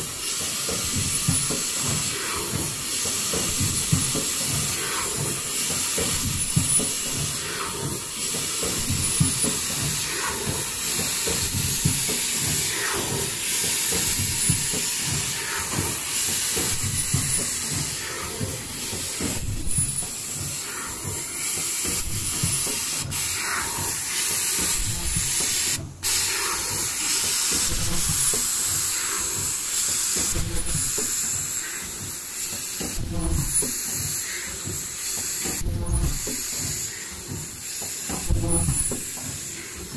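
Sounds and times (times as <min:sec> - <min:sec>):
compressed air hissing: 0:00.0 - 0:39.9
machine strokes: 0:00.0 - 0:39.9.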